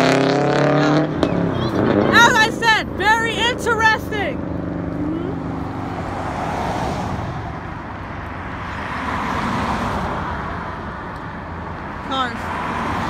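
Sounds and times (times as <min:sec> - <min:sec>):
highway traffic passing: 0:00.0 - 0:13.0.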